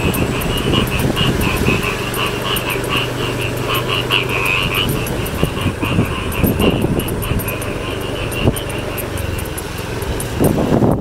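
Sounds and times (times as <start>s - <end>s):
frogs croaking: 0.0s - 11.0s
low rumble: 0.0s - 11.0s.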